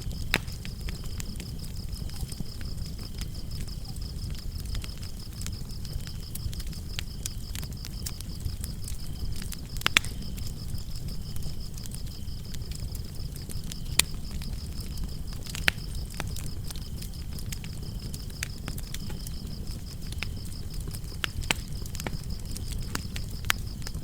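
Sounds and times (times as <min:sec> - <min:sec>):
crickets chirping: 0:00.0 - 0:24.0
wood fire crackling and popping: 0:00.0 - 0:24.0.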